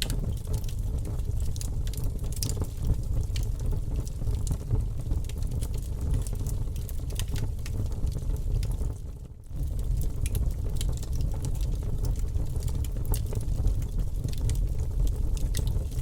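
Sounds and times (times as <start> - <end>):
low rumble of burning: 0.0 - 16.0
wood fire crackling and popping: 0.0 - 16.0.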